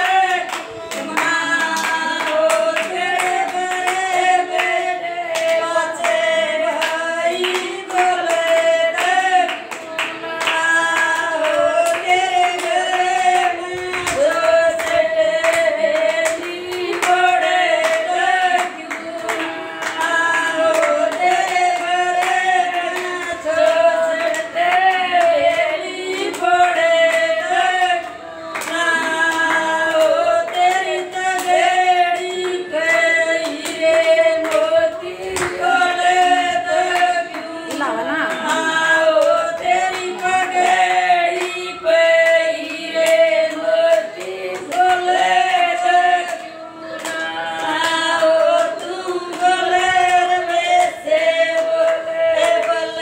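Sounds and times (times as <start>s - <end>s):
hand claps: 0.0s - 53.0s
women singing folk song: 0.0s - 53.0s.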